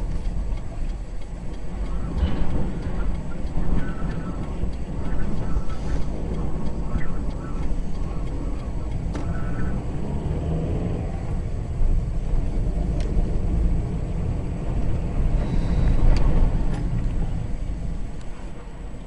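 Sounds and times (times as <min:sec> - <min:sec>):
car road noise: 0:00.0 - 0:19.0
wind gusts: 0:00.0 - 0:19.0.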